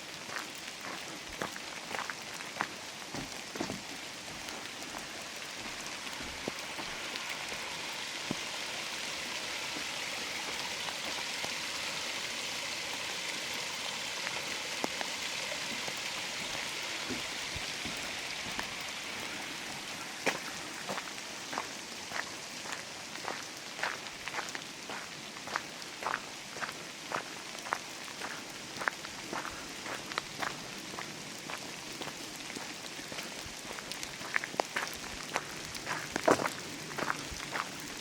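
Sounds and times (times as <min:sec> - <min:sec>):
raindrops ticking close by: 0:00.0 - 0:38.0
steady rain in forest: 0:00.0 - 0:38.0.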